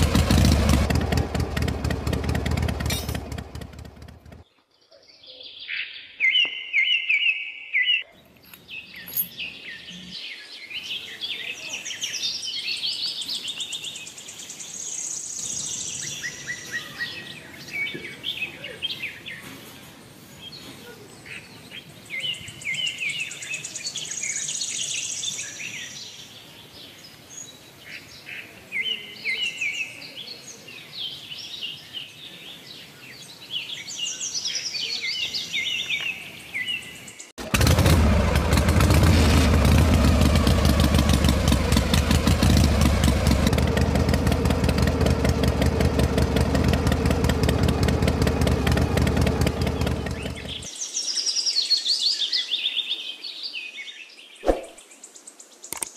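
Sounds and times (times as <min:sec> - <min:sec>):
birds chirping: 0:00.0 - 0:38.9, 0:39.5 - 0:55.9.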